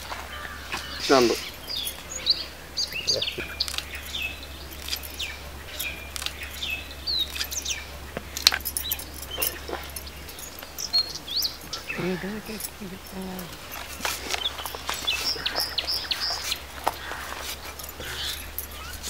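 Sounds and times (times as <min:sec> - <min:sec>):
birds chirping: 0:00.0 - 0:19.0
faint low hum: 0:00.0 - 0:19.0.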